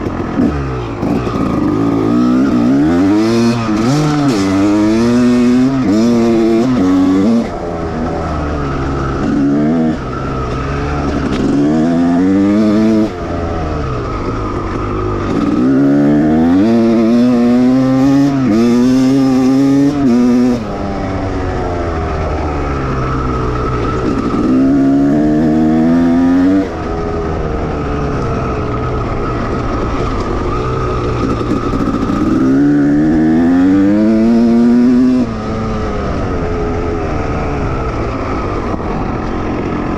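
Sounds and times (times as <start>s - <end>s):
motocross engine accelerating: 0.0s - 39.9s.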